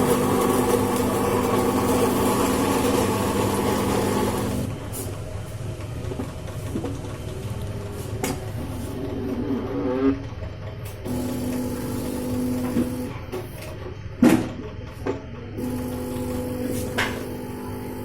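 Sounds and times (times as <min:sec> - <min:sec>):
coffee machine humming: 0:00.0 - 0:18.0.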